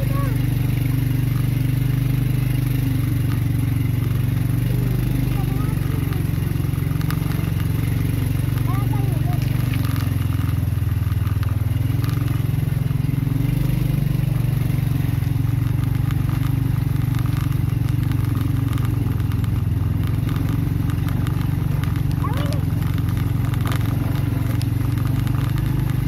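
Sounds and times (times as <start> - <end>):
small motorbike engine running: 0.0 - 26.0
tyres crackling over gravel: 0.0 - 26.0.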